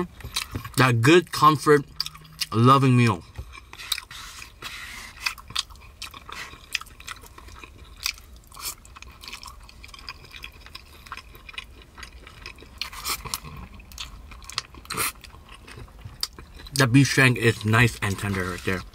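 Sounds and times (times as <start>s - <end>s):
person chewing food: 0.0s - 18.9s.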